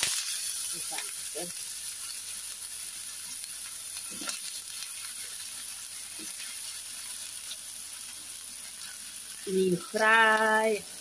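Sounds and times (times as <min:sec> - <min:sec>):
faint crackles of frying: 0:00.0 - 0:11.0
potatoes sizzling in hot oil: 0:00.0 - 0:11.0.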